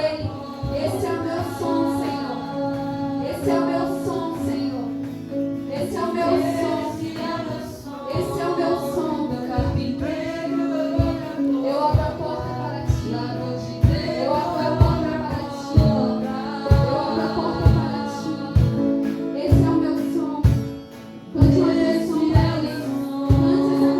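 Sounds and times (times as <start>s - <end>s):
woman singing: 0.0s - 23.9s.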